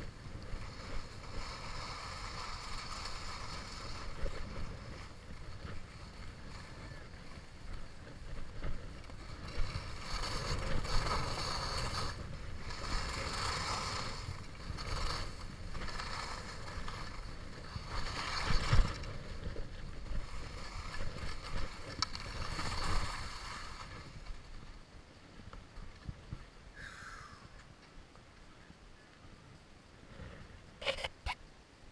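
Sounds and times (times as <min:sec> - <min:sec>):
skis scraping over packed snow: 0:00.0 - 0:31.9
wind rumbling on microphone: 0:00.0 - 0:31.9.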